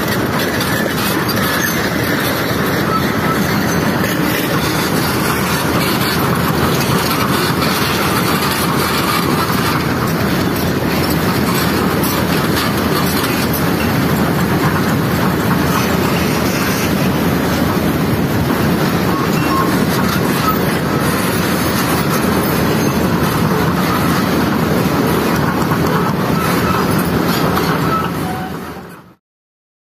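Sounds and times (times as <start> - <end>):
debris flood rumbling down a channel: 0.0 - 28.3.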